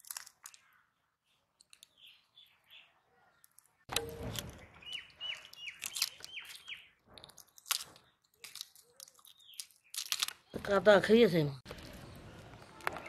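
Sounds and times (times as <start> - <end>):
bird chirping: 0.4 - 13.0.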